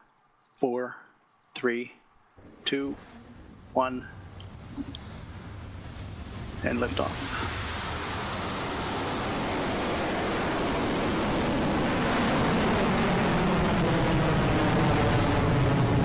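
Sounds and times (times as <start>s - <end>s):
rocket engines rumbling: 2.4s - 16.0s.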